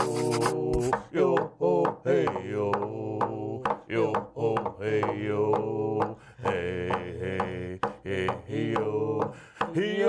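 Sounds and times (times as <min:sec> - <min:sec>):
person singing chant-like melody: 0:00.0 - 0:10.0.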